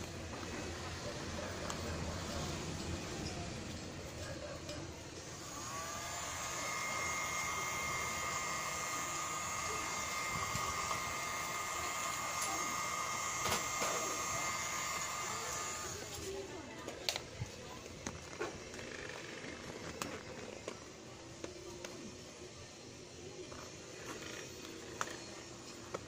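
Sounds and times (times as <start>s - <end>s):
heat gun fan whine: 0.0s - 26.0s.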